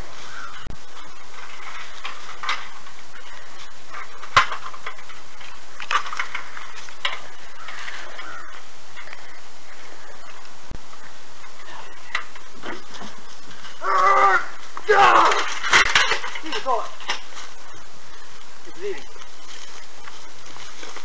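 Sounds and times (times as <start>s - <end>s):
steady hiss: 0.0s - 21.0s
stepladder handled on grass: 0.0s - 21.0s.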